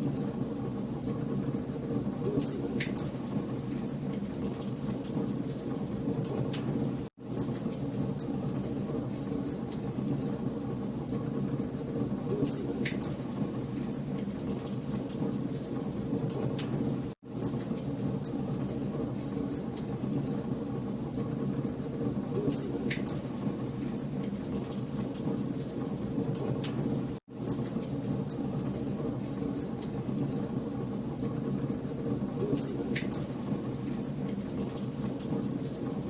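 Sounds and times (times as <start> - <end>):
fire crackling in fireplace: 0.0 - 36.0.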